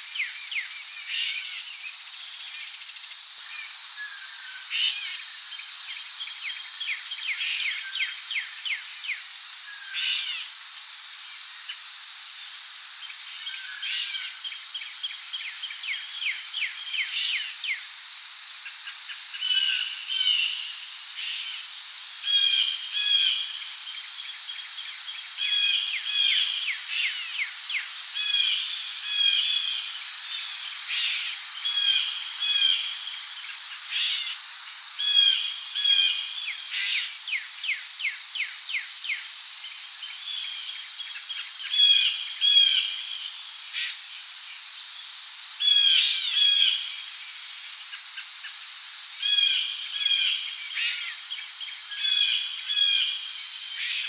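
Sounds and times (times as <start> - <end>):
crickets droning: 0.0 - 54.0.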